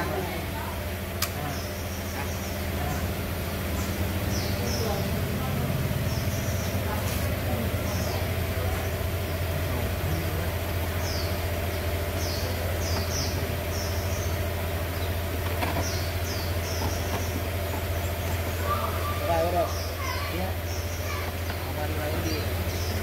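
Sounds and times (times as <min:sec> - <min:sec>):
engine humming: 0:00.0 - 0:23.0
small birds chirping: 0:00.0 - 0:23.0.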